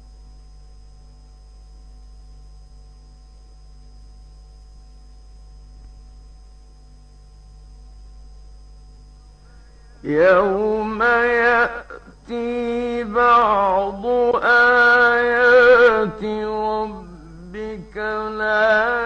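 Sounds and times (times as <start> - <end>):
electrical hum: 0.0 - 19.0
thin high whine: 0.0 - 19.0.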